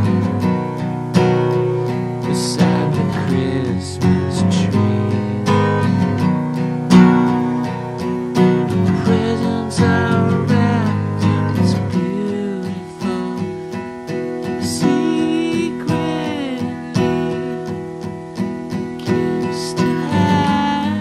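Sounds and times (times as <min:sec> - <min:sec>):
acoustic guitar strummed and plucked: 0:00.0 - 0:21.0.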